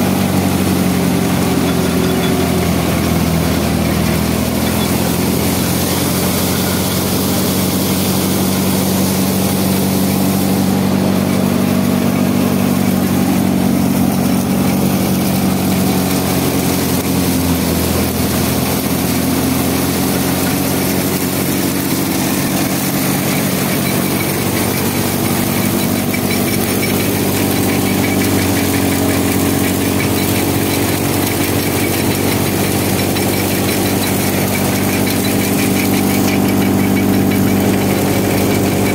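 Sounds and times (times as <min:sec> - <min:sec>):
thresher and tractor engine drone: 0:00.0 - 0:38.9.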